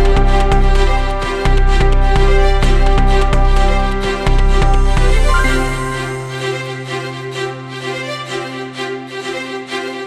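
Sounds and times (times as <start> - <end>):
melodic music with regular beat: 0.0 - 10.0.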